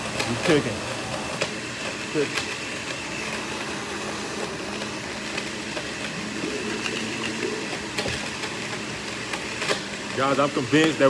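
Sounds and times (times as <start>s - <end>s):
blender crushing ice: 0.0s - 11.0s.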